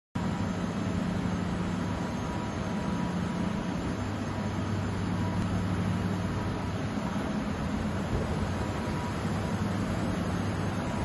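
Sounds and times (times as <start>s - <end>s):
factory machinery hum: 0.2s - 11.0s
faint high whine: 0.2s - 11.0s.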